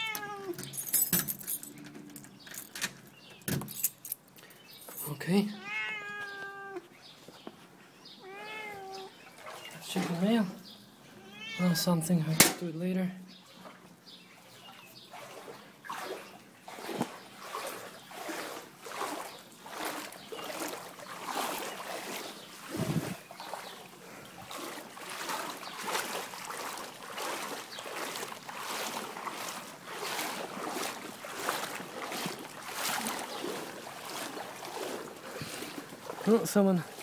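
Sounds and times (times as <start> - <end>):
legs wading through water: 0.0 - 1.0, 4.3 - 12.6, 13.3 - 37.0.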